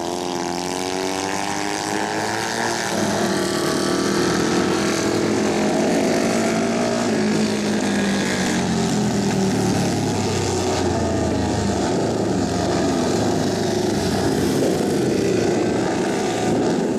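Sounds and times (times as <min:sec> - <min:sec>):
racing motorcycle engines: 0:00.0 - 0:16.9.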